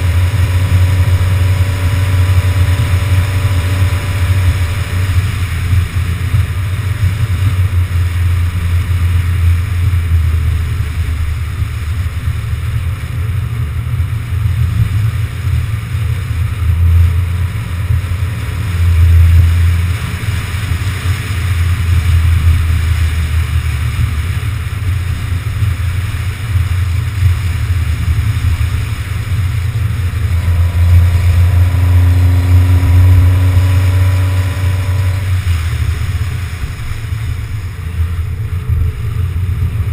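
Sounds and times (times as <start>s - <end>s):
faint steady hum: 0.0s - 39.9s
road and engine rumble: 0.0s - 39.9s
wind buffeting microphone: 0.0s - 39.9s.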